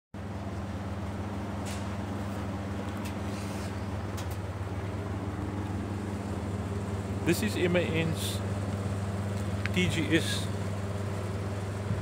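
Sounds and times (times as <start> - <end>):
diesel engine idling: 0.2 - 12.0.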